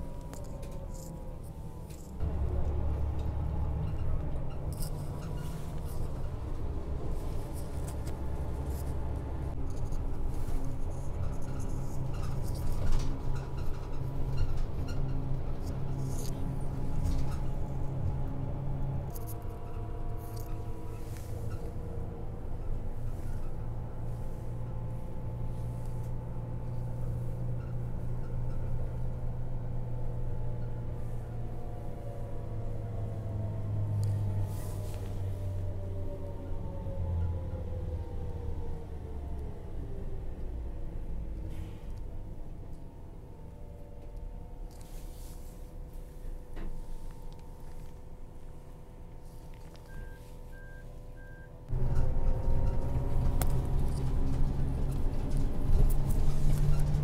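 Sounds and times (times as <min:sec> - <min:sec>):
bus engine and tyres rumbling: 0:00.0 - 0:57.0
road noise: 0:00.0 - 0:57.0.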